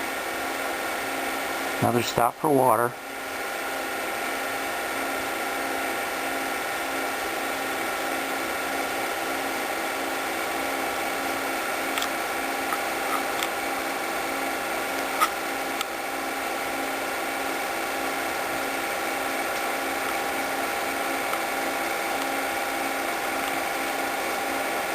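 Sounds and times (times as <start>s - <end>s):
film projector motor whirring: 3.0s - 24.9s.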